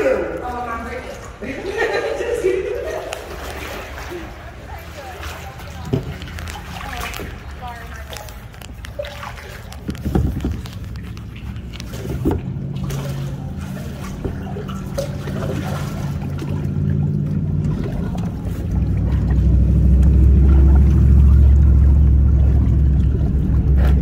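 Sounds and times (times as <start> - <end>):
water sloshing around kayak: 0.0 - 24.0
steady low rumble: 4.0 - 24.0.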